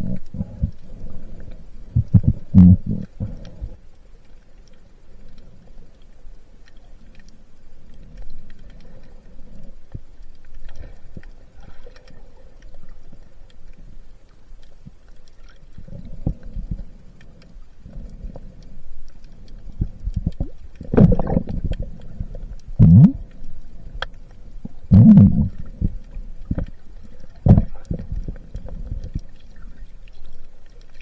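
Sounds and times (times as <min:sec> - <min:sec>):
muffled underwater water movement: 0:00.0 - 0:31.0
small underwater clicks: 0:00.0 - 0:31.0.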